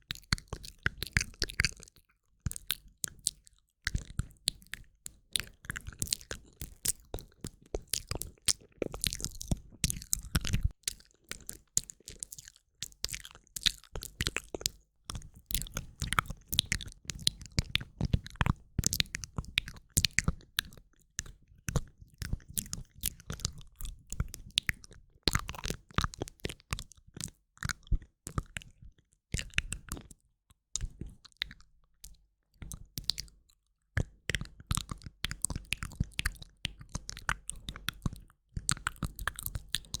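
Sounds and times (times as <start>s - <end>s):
wet mouth clicks and lip smacks: 0.1s - 28.7s, 29.4s - 30.2s, 30.8s - 33.4s, 34.0s - 40.0s.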